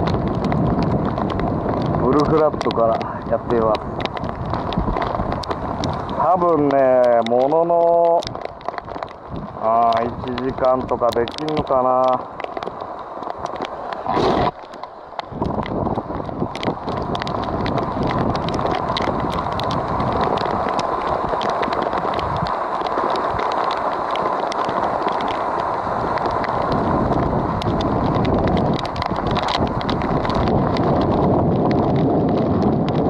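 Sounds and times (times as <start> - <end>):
heavy rain on boat and water: 0.0 - 33.0.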